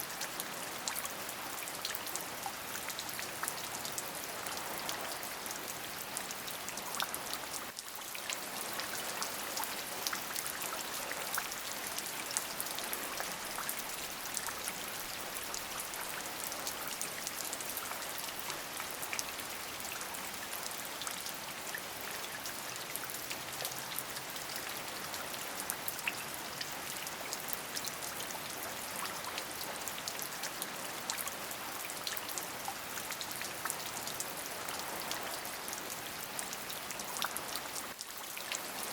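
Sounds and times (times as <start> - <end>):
raindrops ticking on a surface: 0.0 - 38.9
steady rain: 0.0 - 38.9.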